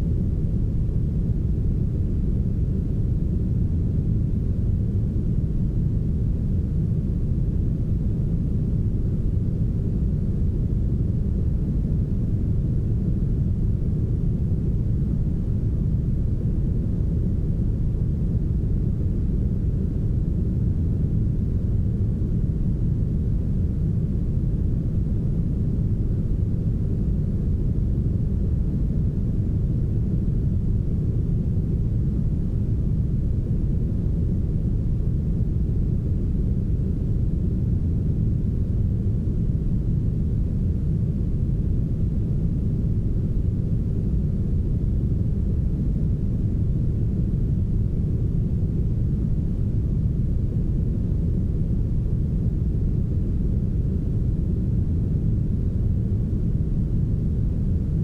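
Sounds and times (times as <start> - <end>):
deep rumbling brown noise: 0.0 - 58.0.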